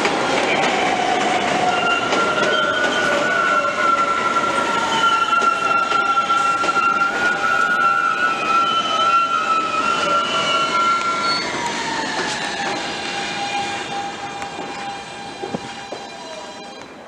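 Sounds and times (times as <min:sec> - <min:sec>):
subway train braking: 0:00.0 - 0:17.0.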